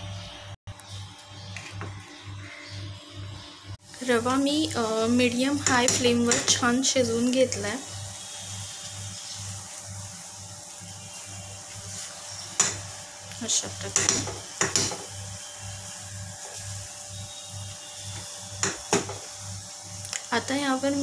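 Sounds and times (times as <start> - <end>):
faint sizzle: 3.8 - 21.0.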